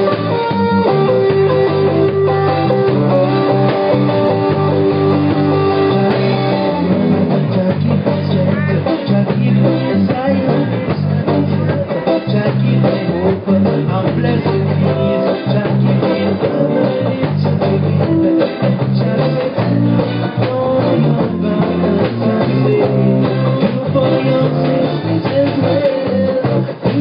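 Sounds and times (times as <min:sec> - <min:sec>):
bass notes: 0:00.0 - 0:27.0
drum kit beat: 0:00.0 - 0:27.0
electric guitar: 0:00.0 - 0:27.0.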